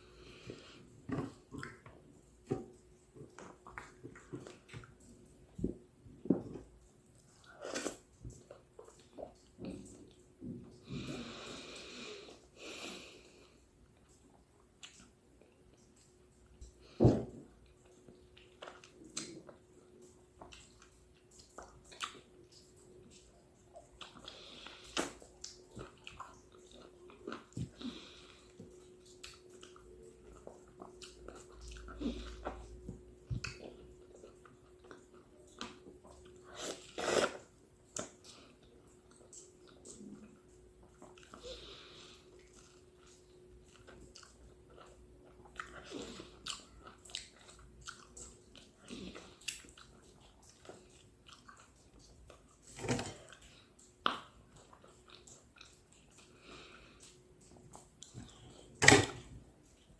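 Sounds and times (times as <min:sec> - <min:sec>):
person chewing juicy fruit: 0:00.0 - 0:59.9.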